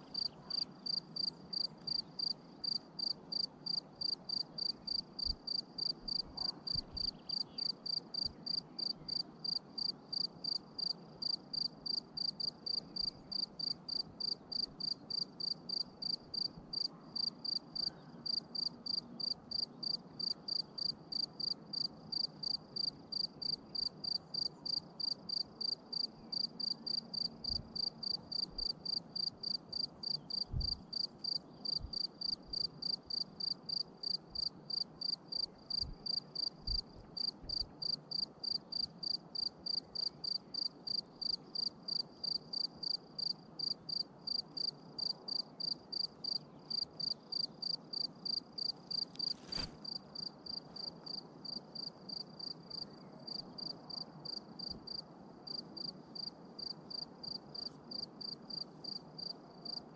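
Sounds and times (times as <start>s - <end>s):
cricket chirping: 0.1s - 59.9s.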